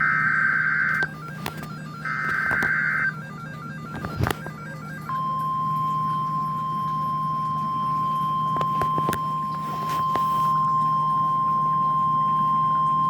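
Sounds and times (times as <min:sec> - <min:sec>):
high-pitched warning tone: 0:00.0 - 0:13.0
low hum: 0:00.0 - 0:13.0.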